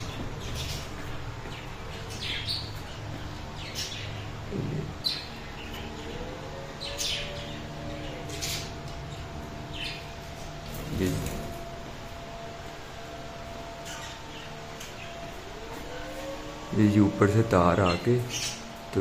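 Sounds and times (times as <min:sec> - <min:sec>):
bird chirping: 0:00.0 - 0:19.0
steady low hum: 0:00.0 - 0:19.0.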